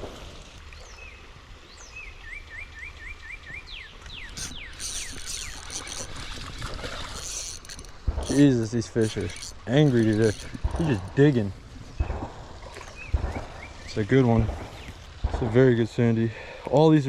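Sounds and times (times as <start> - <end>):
moving water: 0.0 - 17.0
wind: 0.0 - 17.0
songbird singing: 0.7 - 6.4, 7.2 - 15.2.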